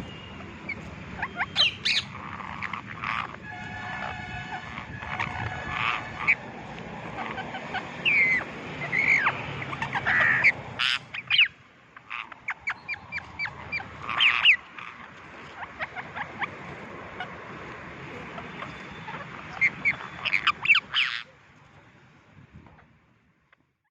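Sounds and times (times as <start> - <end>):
parrots squawking: 0.0 - 21.3.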